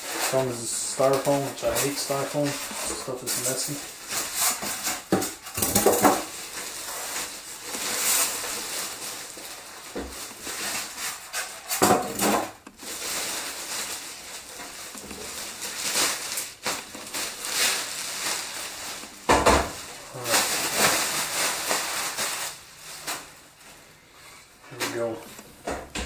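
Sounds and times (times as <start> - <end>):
styrofoam blocks scraping: 0.0 - 23.4
plastic bag crinkling: 0.0 - 23.9.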